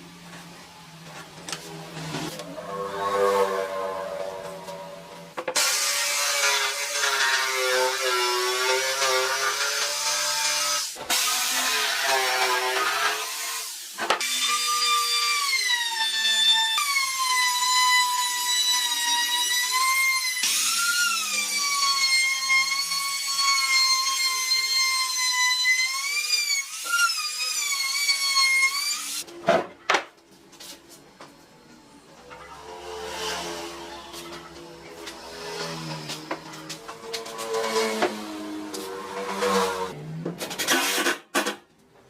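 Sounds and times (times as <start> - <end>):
power tool whining cutting wood: 2.2 - 29.3, 32.4 - 40.0.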